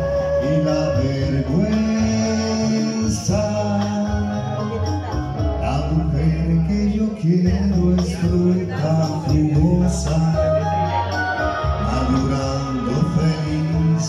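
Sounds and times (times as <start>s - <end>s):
man singing: 0.0s - 14.0s
slow ballad chords: 0.0s - 14.0s.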